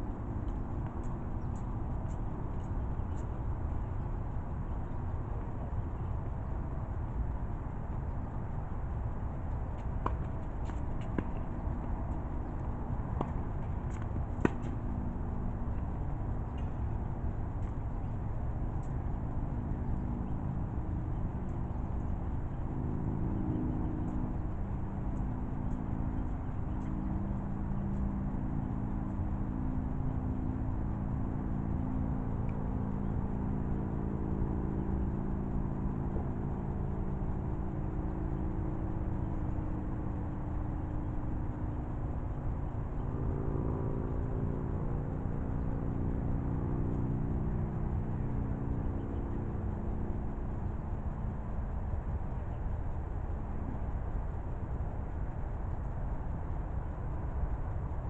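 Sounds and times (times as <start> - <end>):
engine drone: 0.0 - 58.0.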